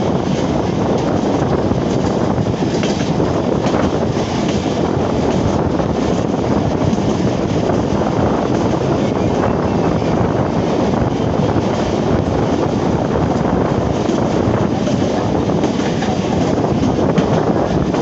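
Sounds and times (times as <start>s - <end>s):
train wheels rumbling on rail: 0.0s - 18.0s
wind on microphone: 0.0s - 18.0s.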